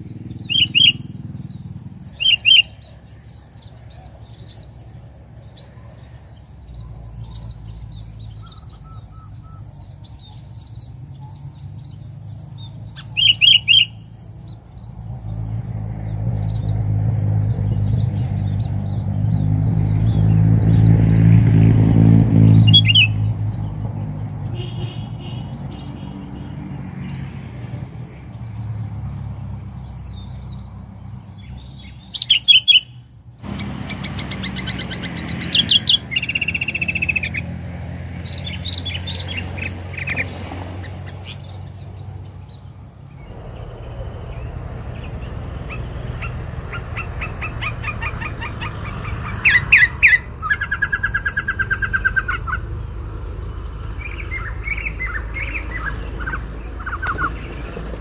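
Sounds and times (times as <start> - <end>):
birds calling and trilling: 0.0 - 58.0
harsh rattling bird calls: 0.0 - 58.0.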